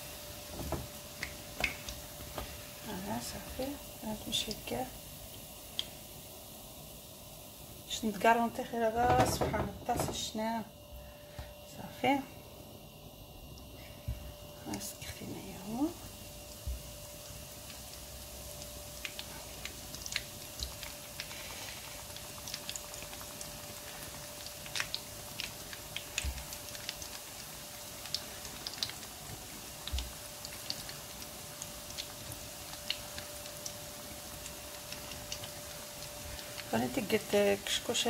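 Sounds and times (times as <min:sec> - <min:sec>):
crackles and pops of frying: 0:00.0 - 0:11.6, 0:12.7 - 0:38.0
dough frying in hot oil: 0:00.0 - 0:38.0.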